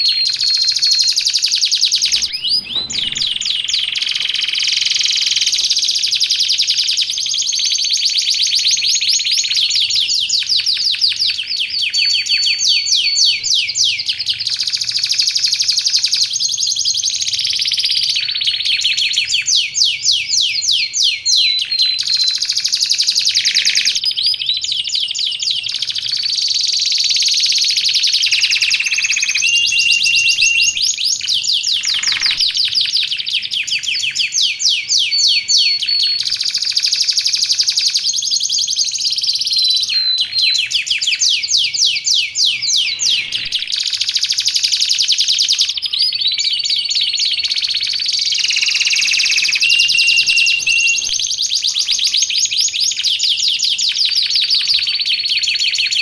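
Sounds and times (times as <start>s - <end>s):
canary singing: 10.5s - 56.0s.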